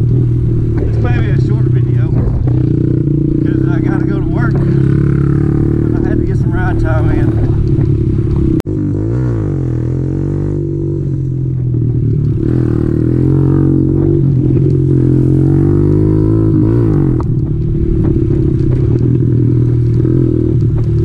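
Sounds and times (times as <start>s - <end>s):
small motorcycle engine revving: 0.0s - 21.0s.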